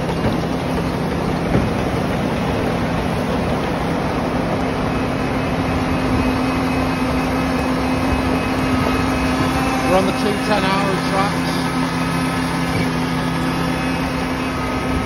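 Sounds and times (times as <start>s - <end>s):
harvester machinery noise: 0.0s - 15.0s
tractor engine hum: 0.0s - 15.0s.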